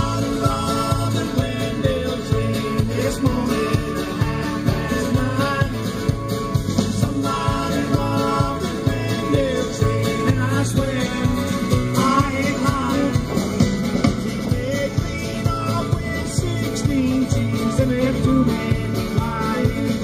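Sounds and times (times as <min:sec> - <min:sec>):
live country band with singing: 0:00.0 - 0:20.0.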